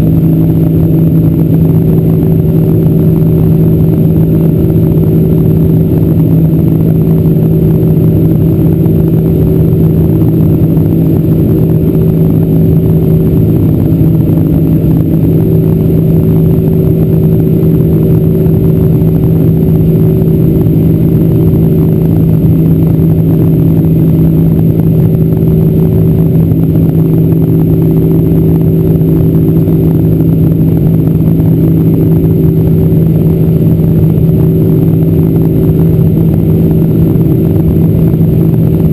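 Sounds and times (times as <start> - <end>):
aircraft cabin engine drone: 0.0 - 38.9
rushing airflow noise: 0.0 - 38.9.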